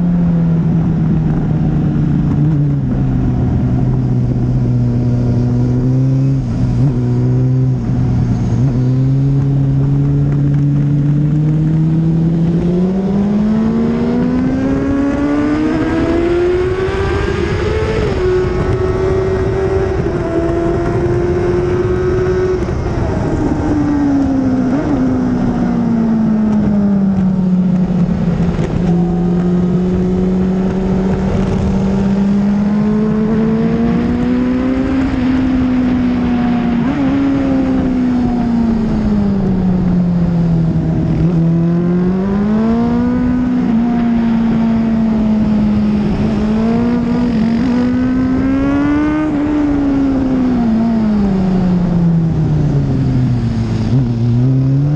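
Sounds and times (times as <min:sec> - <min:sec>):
motorcycle engine revving: 0:00.0 - 0:54.9
wind rush: 0:00.0 - 0:54.9.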